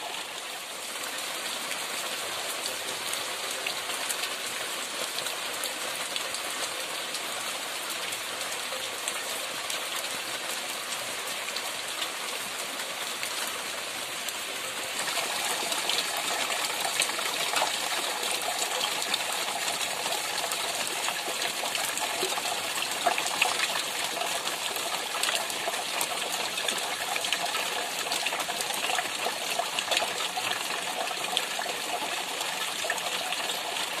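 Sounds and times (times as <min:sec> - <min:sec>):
steady rain falling: 0:00.0 - 0:34.0
water gushing: 0:00.0 - 0:34.0.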